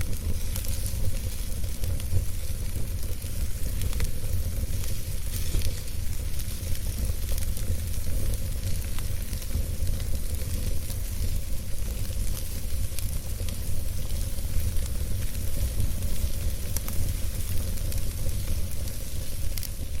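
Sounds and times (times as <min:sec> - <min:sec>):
campfire crackling and popping: 0:00.0 - 0:20.0
fire hiss and low rumble: 0:00.0 - 0:20.0.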